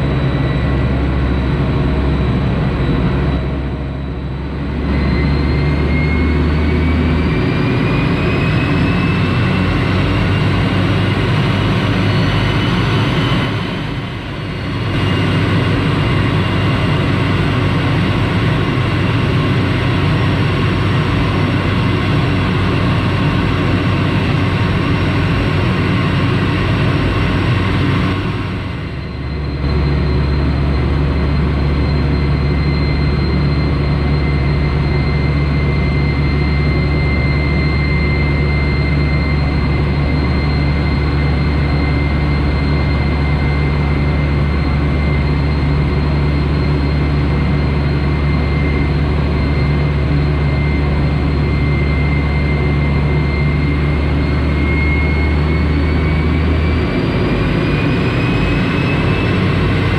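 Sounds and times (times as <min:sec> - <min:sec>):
jet engine whine and drone: 0:00.0 - 0:59.9.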